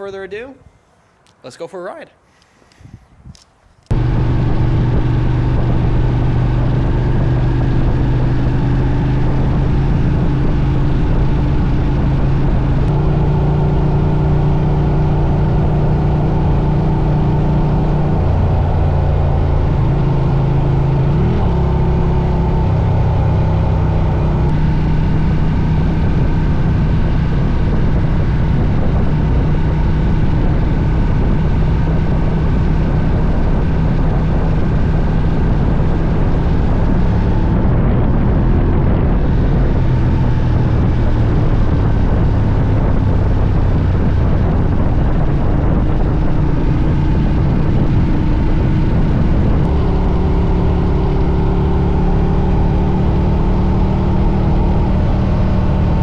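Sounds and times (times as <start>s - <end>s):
motorcycle engine running: 3.9s - 56.0s.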